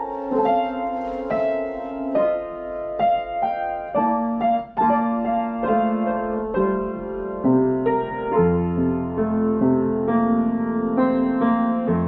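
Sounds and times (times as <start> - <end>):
slow gentle piano melody: 0.0 - 12.0.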